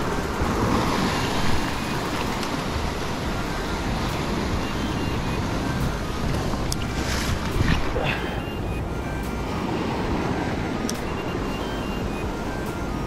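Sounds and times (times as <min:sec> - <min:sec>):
ocean surf breaking on rocks: 0:00.0 - 0:12.9
wind rumbling on microphone: 0:00.0 - 0:13.0.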